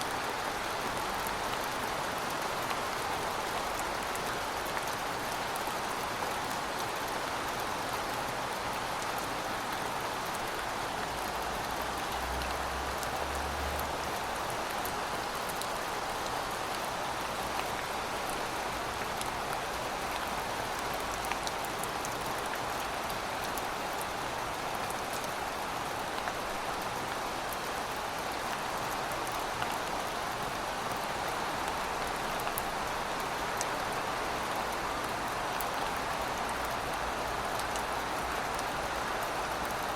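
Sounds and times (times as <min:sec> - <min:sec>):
raindrops ticking on surfaces: 0:00.1 - 0:39.9.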